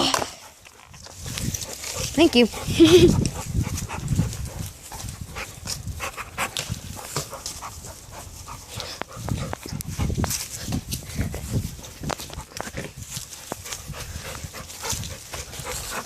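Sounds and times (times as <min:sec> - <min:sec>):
dogs panting: 0:00.2 - 0:16.0.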